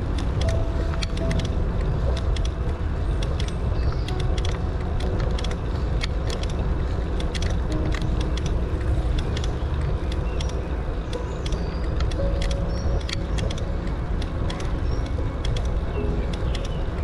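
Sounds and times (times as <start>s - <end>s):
wind rumbling on microphone: 0.0s - 17.0s
light rattling clicks: 0.1s - 17.0s.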